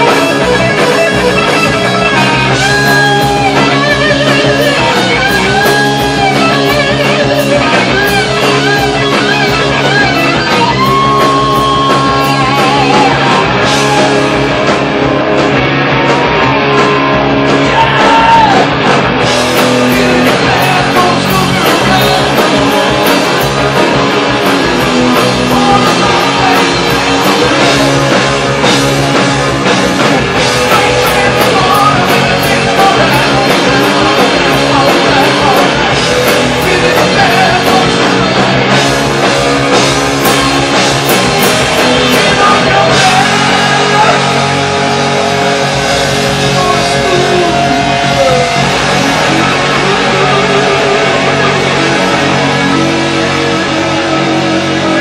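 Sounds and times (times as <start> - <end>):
bass guitar: 0.0 - 55.0
distorted electric guitars: 0.0 - 55.0
drums: 0.0 - 55.0
lead guitar bending notes: 0.0 - 55.0.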